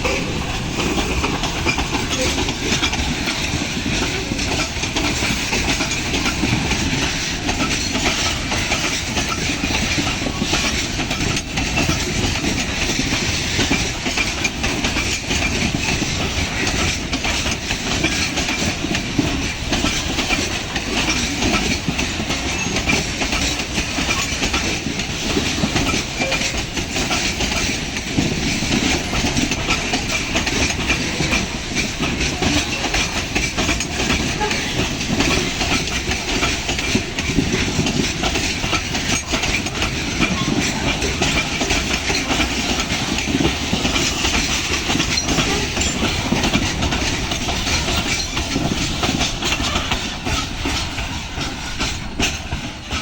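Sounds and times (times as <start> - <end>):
freight train wagons rolling: 0.0 - 53.0
steel wheels clattering over rail joints: 0.0 - 53.0.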